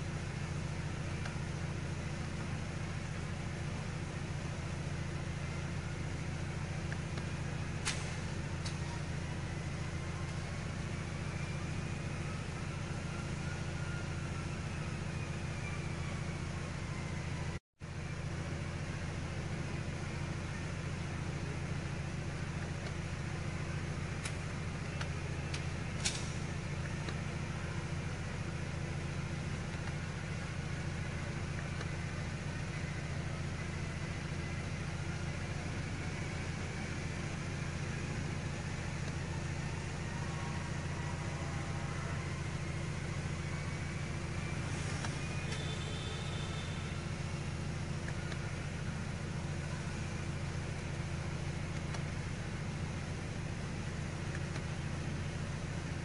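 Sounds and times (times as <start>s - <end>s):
vehicle idling hum: 0.0s - 56.0s.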